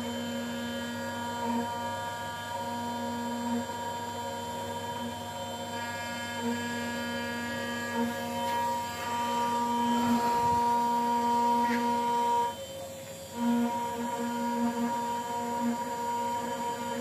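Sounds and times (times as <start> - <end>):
electric motor hum and whine: 0.0 - 17.0.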